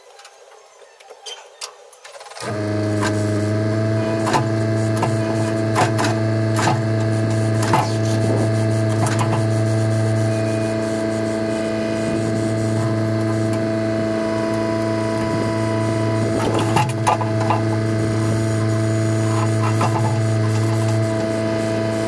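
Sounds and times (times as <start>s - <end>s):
machine humming: 2.4s - 22.0s.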